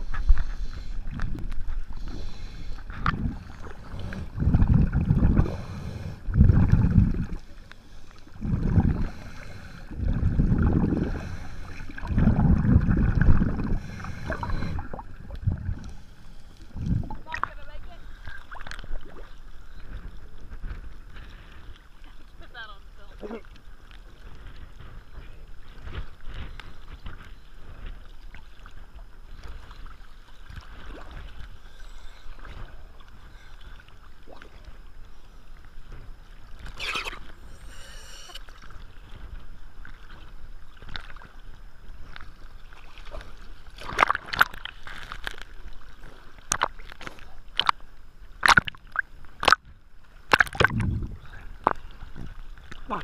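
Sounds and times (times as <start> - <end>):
water splashes: 0.0 - 25.0, 25.6 - 53.0
steady low rumble: 0.0 - 43.7, 47.2 - 53.0
sea water sloshing and slapping: 0.0 - 53.0.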